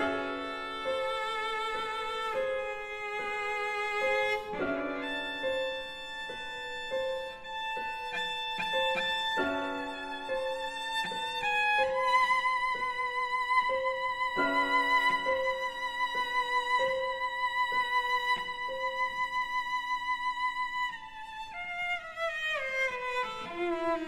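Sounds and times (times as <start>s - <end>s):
cello melody with vibrato: 0.0s - 24.0s
piano accompaniment: 0.0s - 24.0s.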